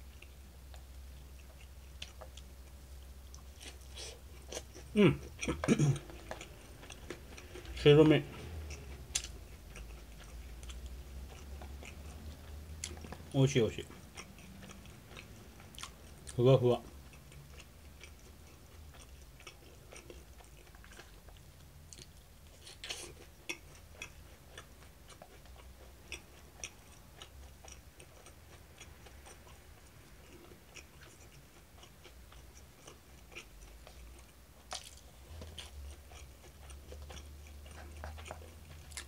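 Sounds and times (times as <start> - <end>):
faint chewing: 0.0 - 39.0.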